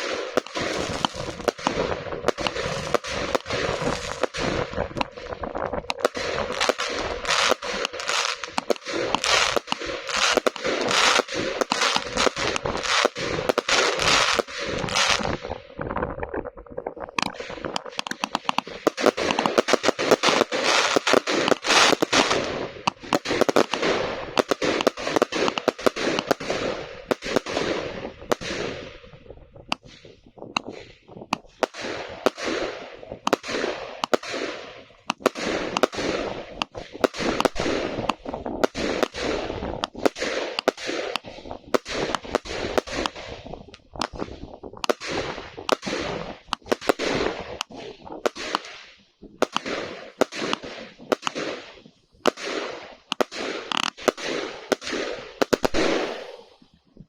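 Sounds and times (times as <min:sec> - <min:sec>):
firework bangs: 0:00.0 - 0:15.7, 0:16.9 - 0:56.8
firework crackle: 0:00.0 - 0:57.0.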